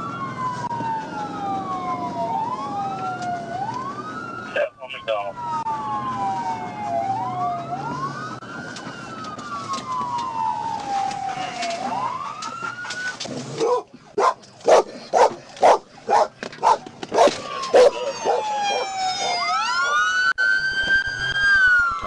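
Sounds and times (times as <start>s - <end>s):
police sirens wailing: 0.0s - 14.8s, 15.6s - 22.0s.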